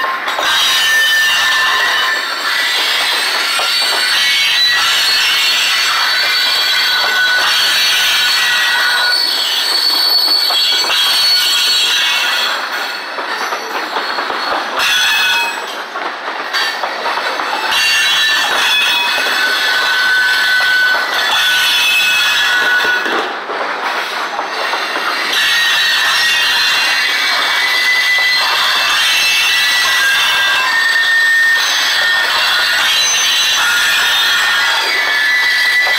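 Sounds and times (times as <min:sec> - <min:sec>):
freight cars rolling on rails: 0:00.0 - 0:35.9
steel wheels squealing: 0:00.0 - 0:35.9.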